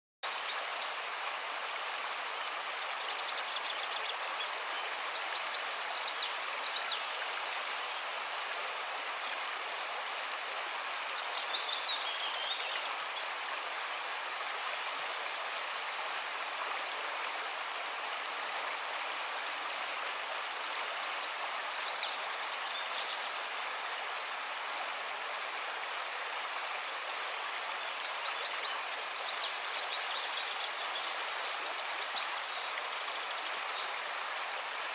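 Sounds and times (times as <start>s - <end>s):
river rushing over stones: 0.3s - 34.9s.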